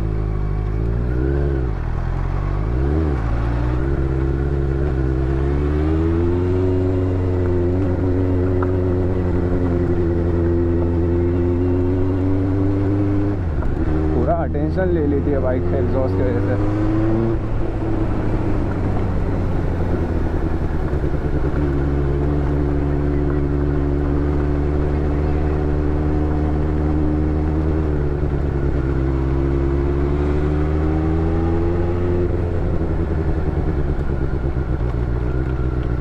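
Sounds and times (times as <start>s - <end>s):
motorcycle engine cruising: 0.0s - 36.0s.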